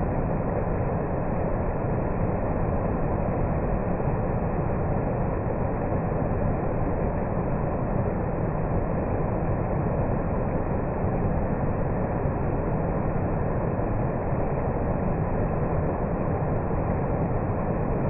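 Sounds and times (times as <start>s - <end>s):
waterfall: 0.0s - 18.0s.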